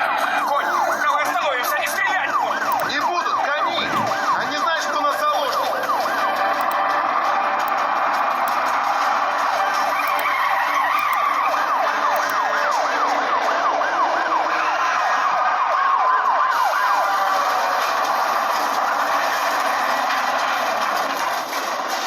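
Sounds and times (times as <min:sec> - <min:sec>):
car engine: 0:00.0 - 0:15.6, 0:16.4 - 0:22.0
police siren yelping: 0:00.0 - 0:22.0
tyres on road: 0:00.0 - 0:22.0.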